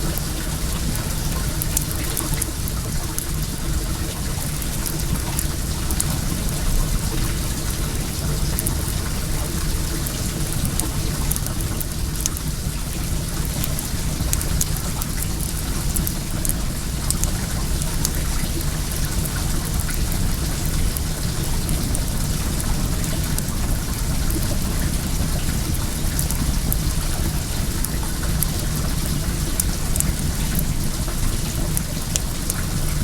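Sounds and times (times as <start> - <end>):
water pouring and trickling: 0.0 - 33.0
wood fire crackling: 0.0 - 33.0.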